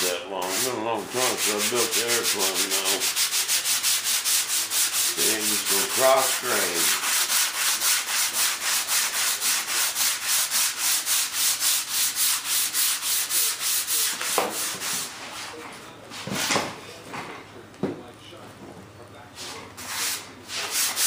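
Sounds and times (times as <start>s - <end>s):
hand sanding strokes: 0.0s - 15.6s, 19.4s - 21.0s.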